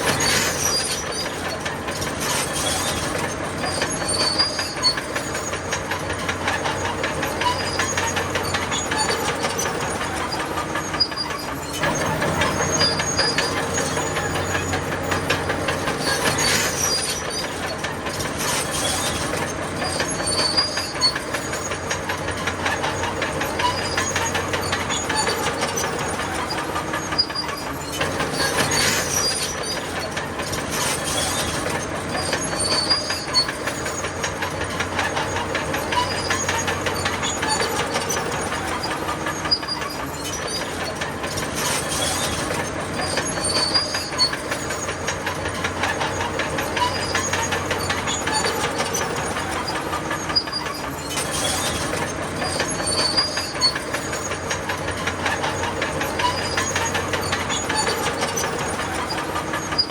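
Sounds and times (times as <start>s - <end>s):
diesel engine under load: 0.0s - 59.9s
steel tracks clanking and squealing: 0.0s - 59.9s.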